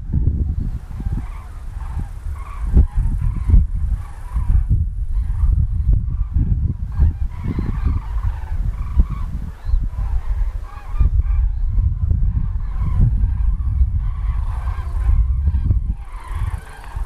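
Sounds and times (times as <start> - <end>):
cranes calling: 0.0 - 17.0.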